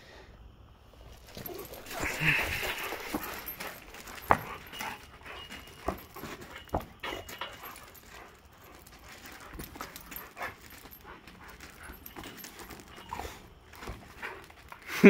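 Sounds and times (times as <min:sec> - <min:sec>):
dogs panting: 0:01.1 - 0:15.0
paws scuffling on gravel: 0:01.1 - 0:15.0.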